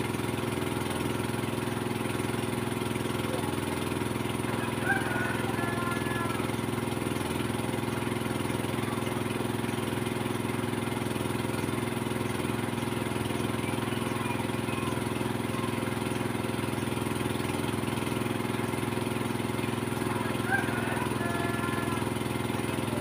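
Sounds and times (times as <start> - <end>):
engine idling hum: 0.0 - 23.0.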